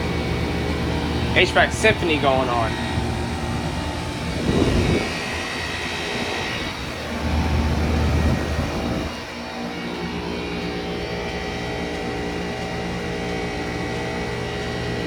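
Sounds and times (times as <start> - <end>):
deep hum: 0.0 - 15.0
heat pump fans and compressors droning: 0.0 - 15.0.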